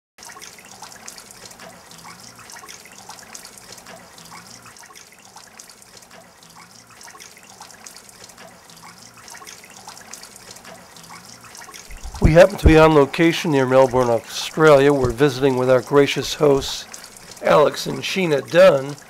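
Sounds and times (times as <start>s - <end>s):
water running and dripping: 0.2s - 19.0s.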